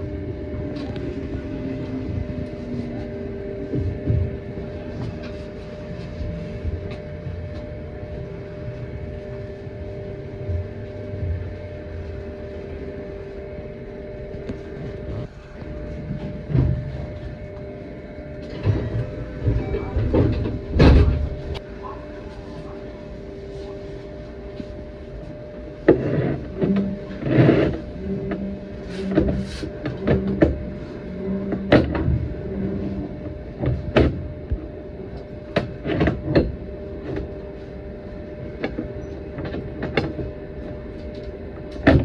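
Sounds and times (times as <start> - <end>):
train motor hum: 0.0 - 42.0.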